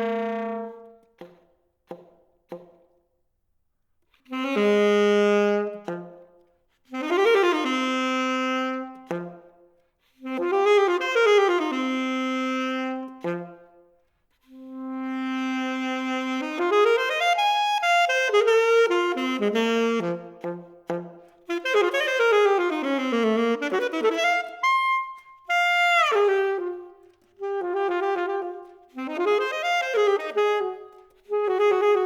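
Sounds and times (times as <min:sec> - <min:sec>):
solo saxophone playing: 0:00.0 - 0:01.4, 0:04.3 - 0:06.3, 0:06.9 - 0:09.6, 0:10.2 - 0:32.0.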